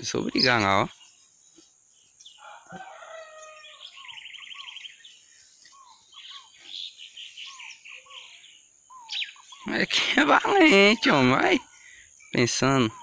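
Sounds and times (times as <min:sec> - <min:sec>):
bird trill: 0:00.0 - 0:13.0
songbirds singing: 0:00.0 - 0:13.0
down-slurred whistled bird notes: 0:02.4 - 0:13.0.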